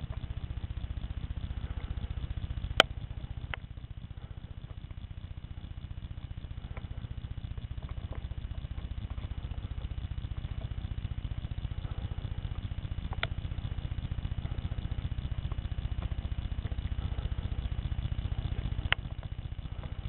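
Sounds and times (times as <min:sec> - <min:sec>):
engine running steadily: 0:00.0 - 0:20.0
faint clicks: 0:00.0 - 0:20.0.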